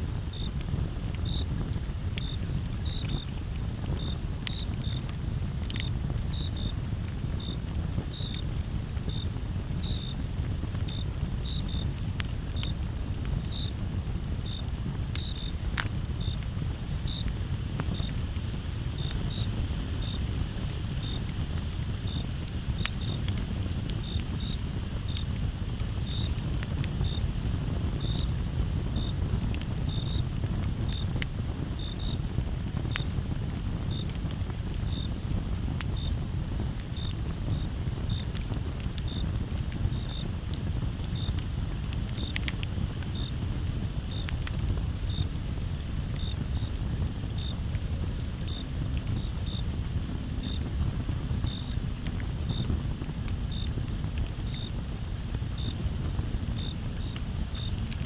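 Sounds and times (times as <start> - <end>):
low fire rumble: 0.0 - 58.0
campfire crackling and popping: 0.1 - 58.0
crickets chirping: 0.1 - 58.0
high insect trill: 0.2 - 34.2, 34.9 - 50.8.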